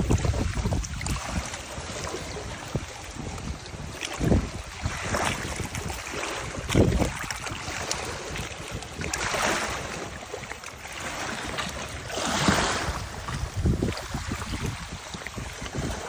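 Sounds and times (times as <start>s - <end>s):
waves washing and splashing: 0.0s - 16.0s
wind buffeting microphone: 0.0s - 16.0s.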